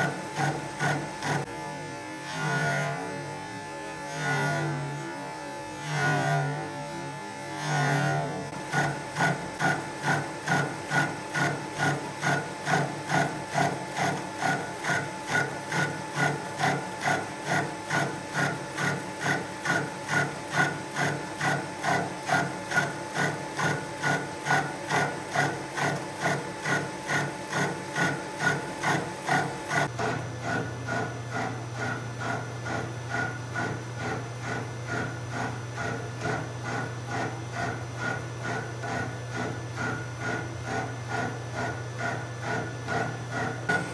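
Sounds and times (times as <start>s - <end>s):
milling cutter cutting with rhythmic pulse: 0.0s - 43.9s.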